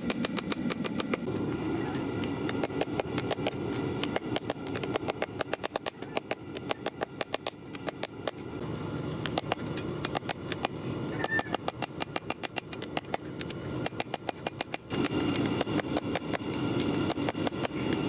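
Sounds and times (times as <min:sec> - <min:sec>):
steady low rush: 0:00.0 - 0:18.0.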